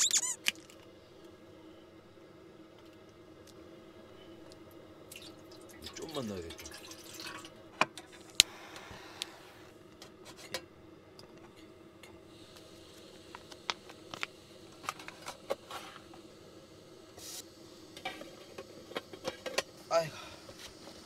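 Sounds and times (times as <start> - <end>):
gas flame hissing: 0.0 - 21.0.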